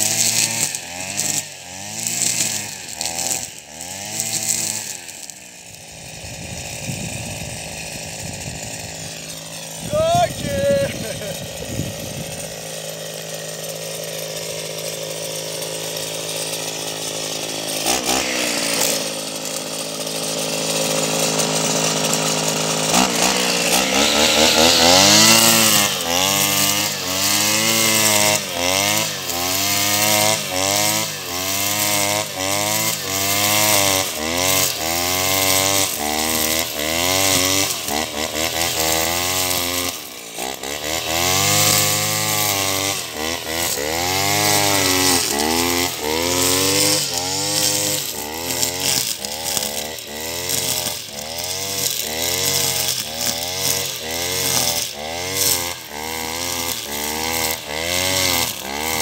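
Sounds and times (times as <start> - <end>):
brush cutter engine revving: 0.0 - 59.0.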